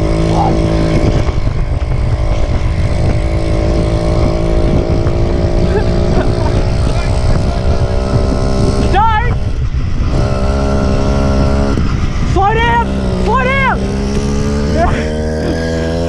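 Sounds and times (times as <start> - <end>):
small bicycle engine running: 0.0 - 16.0
wind rumbling on microphone: 0.0 - 16.0.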